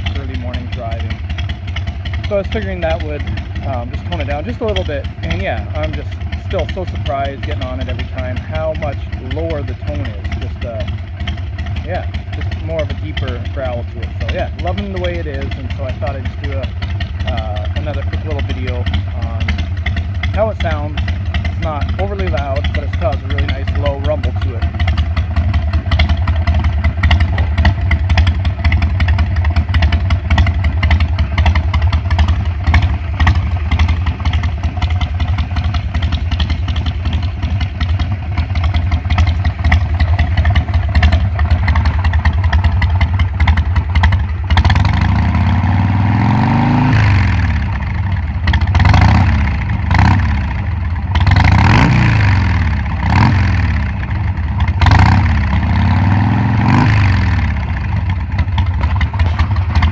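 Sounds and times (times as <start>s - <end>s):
motorcycle engine idling: 0.0s - 59.9s
motorcycle throttle revs: 0.0s - 59.9s.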